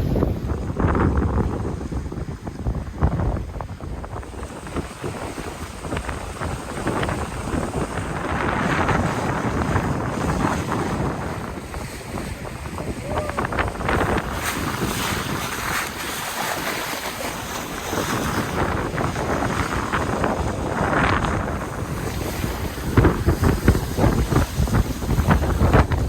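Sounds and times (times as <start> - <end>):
water rushing and splashing: 0.0 - 26.0
wind buffeting microphone: 0.0 - 26.0.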